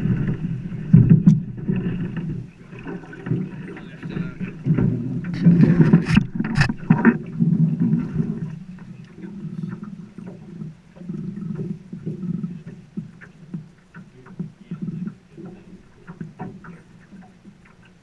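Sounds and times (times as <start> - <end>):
sharp knocks against boat: 0.0 - 10.5, 11.6 - 17.8
water lapping against boat hull: 0.0 - 18.0.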